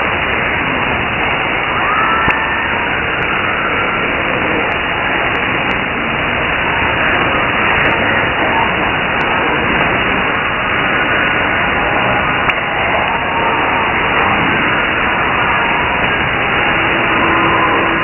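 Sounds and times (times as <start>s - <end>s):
radio static and hiss: 0.0s - 18.0s.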